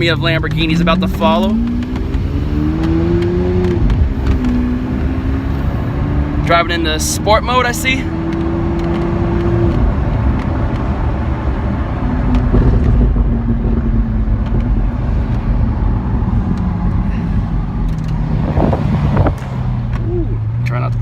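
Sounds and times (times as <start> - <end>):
car engine drone inside cabin: 0.0 - 21.0.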